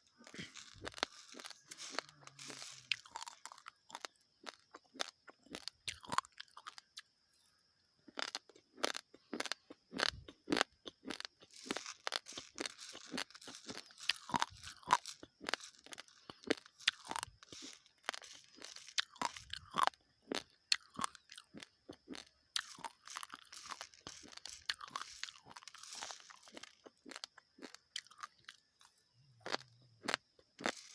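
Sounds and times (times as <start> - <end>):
rice grains crunched and chewed: 0.0 - 30.9.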